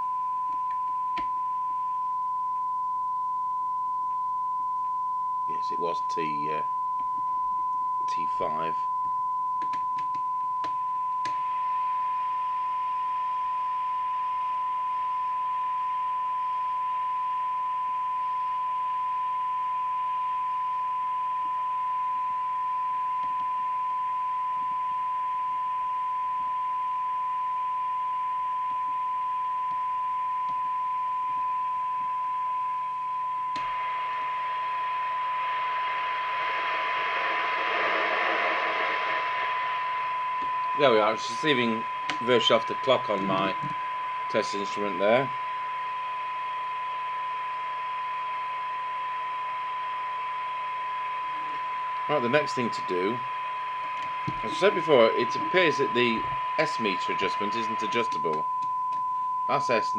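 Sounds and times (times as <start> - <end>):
steady test tone from loudspeaker: 0.0 - 59.9.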